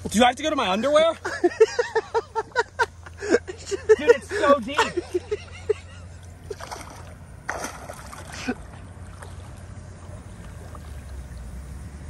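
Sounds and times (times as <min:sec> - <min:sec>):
legs wading through water: 0:00.0 - 0:12.0
low steady rumble: 0:00.0 - 0:12.0.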